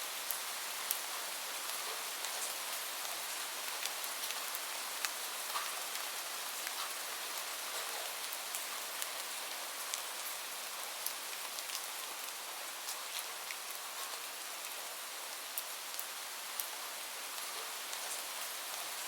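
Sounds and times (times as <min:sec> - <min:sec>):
gentle rain falling: 0:00.0 - 0:19.0.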